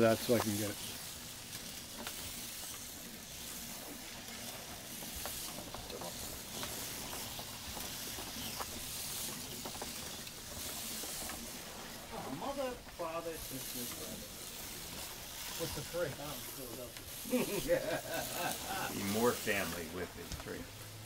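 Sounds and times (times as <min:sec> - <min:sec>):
slot car motors hissing: 0:00.0 - 0:21.0.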